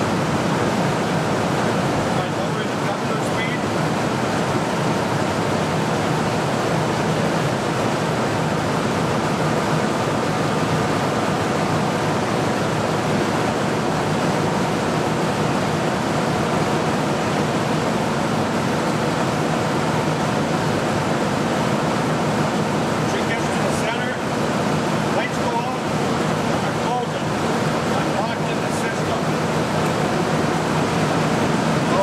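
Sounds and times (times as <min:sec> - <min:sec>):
diesel generator engine running: 0:00.0 - 0:32.0.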